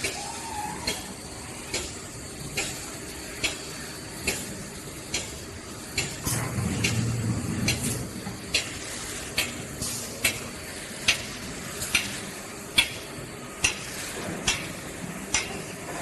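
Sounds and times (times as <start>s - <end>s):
paper tube making machine running: 0.0s - 16.0s
steady hiss: 0.0s - 16.0s.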